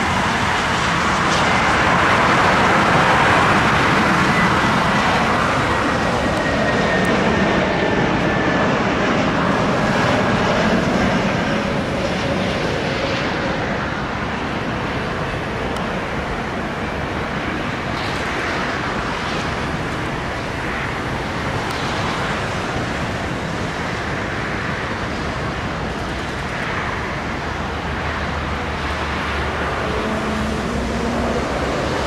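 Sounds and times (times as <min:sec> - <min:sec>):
faint high engine whine: 0:00.0 - 0:32.0
jet engines rushing: 0:00.0 - 0:32.0.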